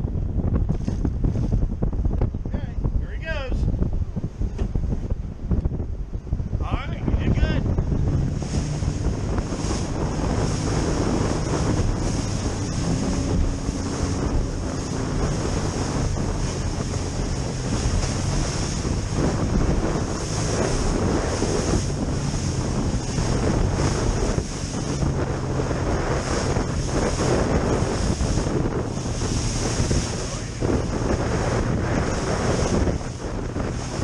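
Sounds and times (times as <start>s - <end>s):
outboard motor drone: 0.0s - 34.0s
waves slapping against hull: 0.0s - 34.0s
wind buffeting microphone: 0.0s - 34.0s.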